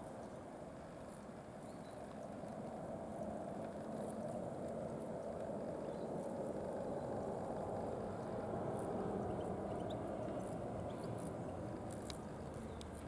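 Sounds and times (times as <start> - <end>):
faint high-pitched ticks: 0.0 - 13.0
low background rumble: 1.6 - 13.0.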